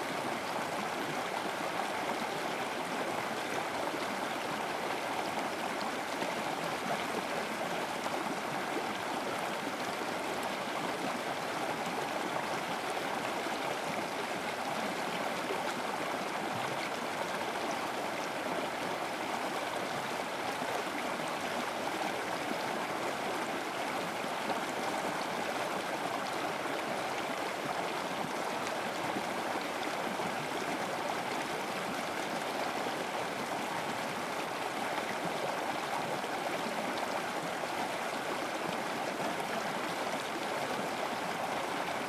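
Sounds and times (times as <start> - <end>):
river water flowing over rocks: 0.0 - 42.0.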